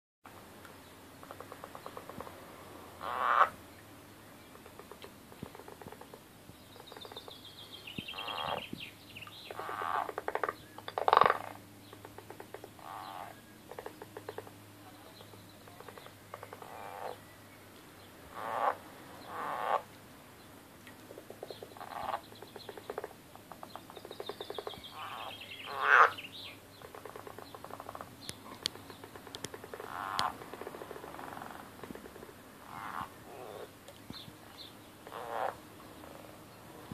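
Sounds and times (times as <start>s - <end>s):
frogs croaking: 1.2s - 3.6s, 4.6s - 17.3s, 18.2s - 19.9s, 21.1s - 36.7s.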